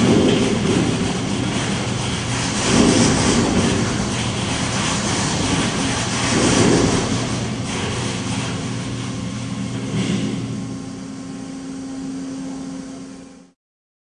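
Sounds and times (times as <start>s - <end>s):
test rig mechanical rumble: 0.0s - 13.5s.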